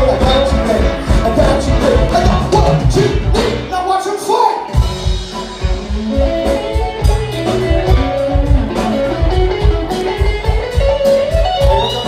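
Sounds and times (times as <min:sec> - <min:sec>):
electric guitar melody: 0:00.0 - 0:03.7, 0:04.6 - 0:12.0
live band playing: 0:00.0 - 0:12.0.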